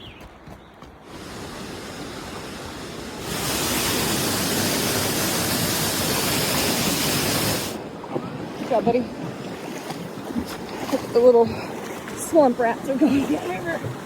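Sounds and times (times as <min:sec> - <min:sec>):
rushing water roar: 0:01.0 - 0:14.0.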